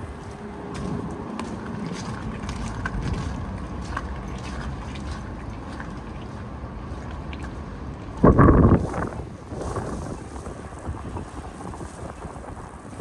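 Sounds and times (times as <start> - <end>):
distant traffic: 0.0 - 13.0
wind rumble on microphone: 0.0 - 13.0.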